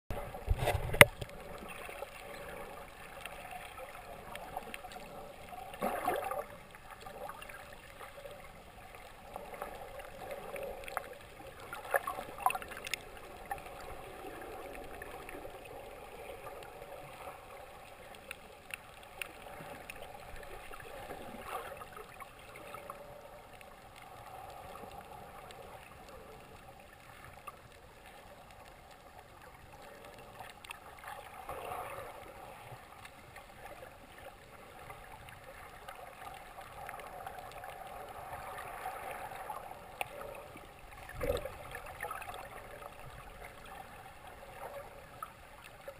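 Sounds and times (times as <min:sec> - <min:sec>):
muffled underwater water wash: 0:00.1 - 0:45.9.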